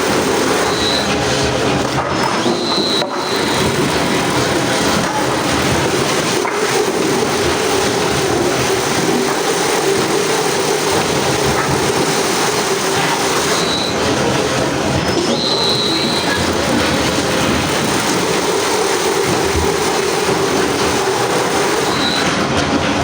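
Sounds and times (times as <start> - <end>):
heavy machinery rumble: 0.0 - 23.0.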